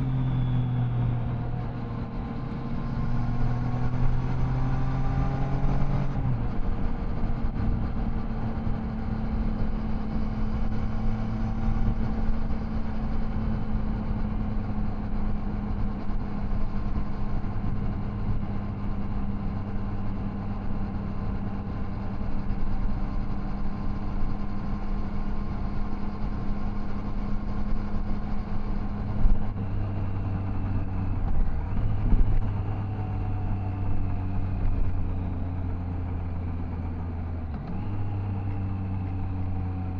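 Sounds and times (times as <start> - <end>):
wind and road noise: 0.0 - 39.9
motorcycle engine running: 6.1 - 39.9.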